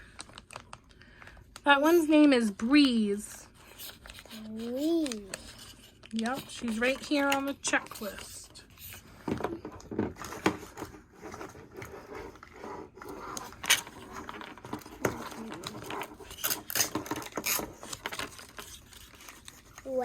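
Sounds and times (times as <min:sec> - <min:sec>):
plastic toy pieces handled: 0:00.0 - 0:02.0, 0:02.6 - 0:20.0.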